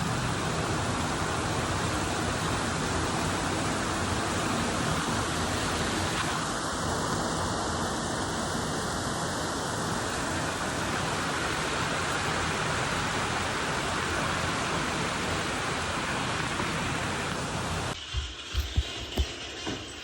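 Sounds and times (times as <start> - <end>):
rain falling: 0.0 - 18.1.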